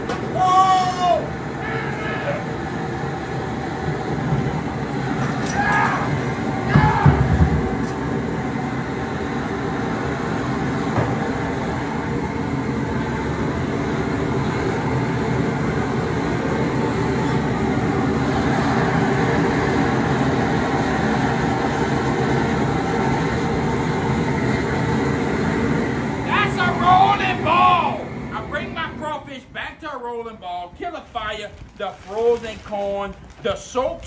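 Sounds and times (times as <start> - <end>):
propane burner rushing: 0.0 - 34.0.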